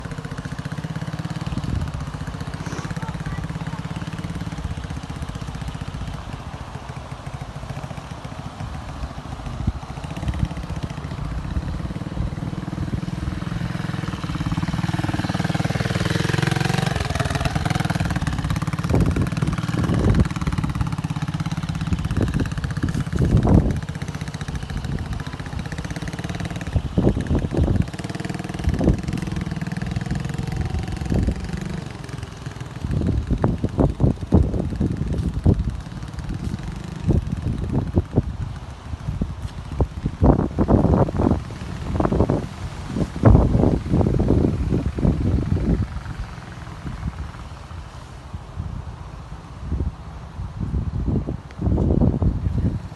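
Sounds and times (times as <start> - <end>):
small motorbike engine revving: 0.0 - 48.1.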